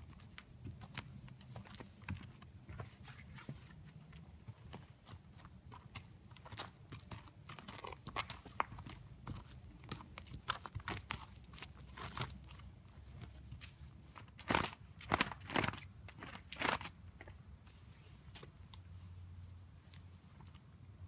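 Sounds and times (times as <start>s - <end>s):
horse hooves on gravel: 0.0s - 17.4s.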